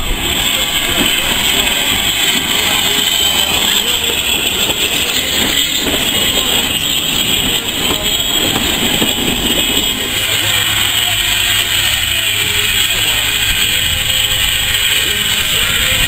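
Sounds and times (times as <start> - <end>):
train rolling slowly past: 0.0 - 16.0.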